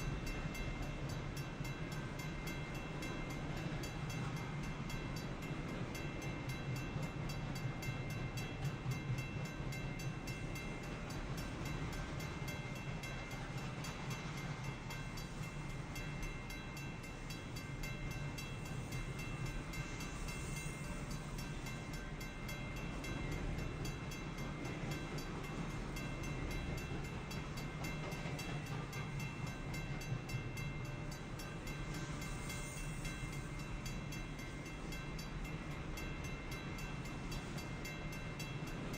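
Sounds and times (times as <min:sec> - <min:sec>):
crossing bell ringing: 0:00.0 - 0:38.9
train wheels rumbling on rails: 0:00.0 - 0:38.9.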